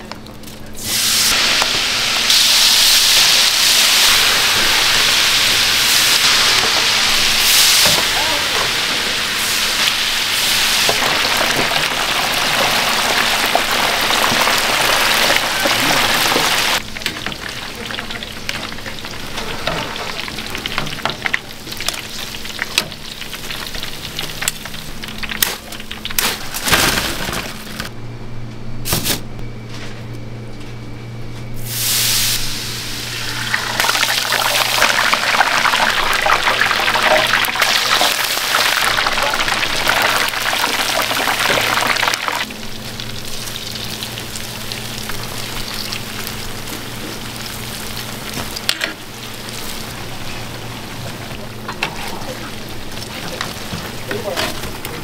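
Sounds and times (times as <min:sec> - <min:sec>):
food deep-frying in oil: 0:00.0 - 0:27.9, 0:31.6 - 0:55.0.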